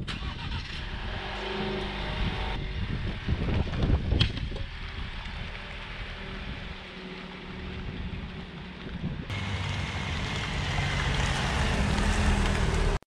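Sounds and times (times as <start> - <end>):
wind buffeting microphone: 0.0 - 7.0, 7.6 - 13.0
car engine and tyres driving by: 0.0 - 13.0.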